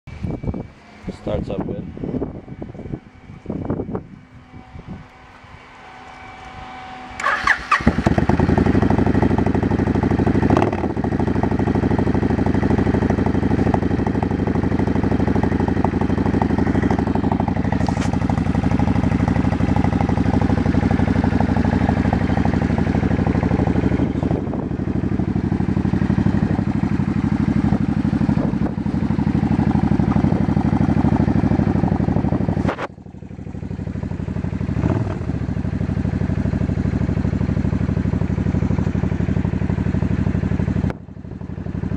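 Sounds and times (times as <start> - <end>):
motorcycle engine starting and running: 0.1 - 41.9.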